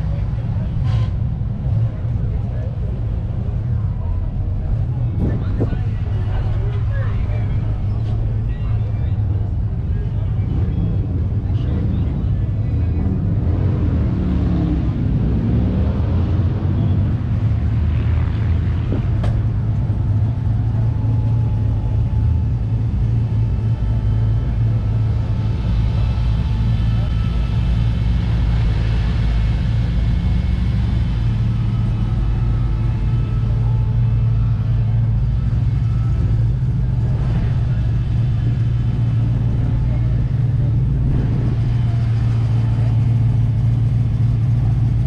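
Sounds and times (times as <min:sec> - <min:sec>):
car engine idling: 0:00.0 - 0:13.8, 0:16.4 - 0:45.0
people talking: 0:00.0 - 0:15.6, 0:16.2 - 0:45.0.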